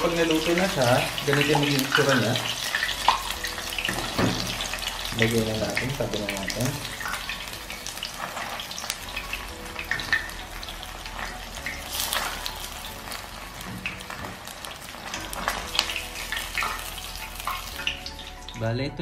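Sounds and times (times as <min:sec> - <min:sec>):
chicken frying in hot oil: 0:00.0 - 0:18.6.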